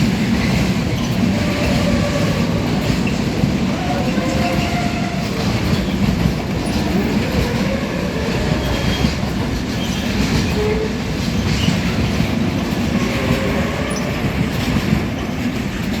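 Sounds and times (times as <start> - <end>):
train wheels clattering over track: 0.0 - 16.0.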